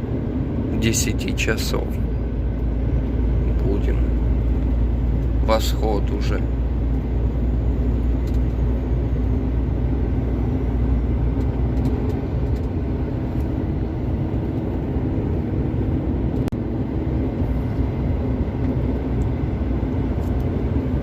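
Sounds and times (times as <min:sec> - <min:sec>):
road noise: 0:00.0 - 0:21.0
truck diesel engine rumble: 0:00.0 - 0:21.0.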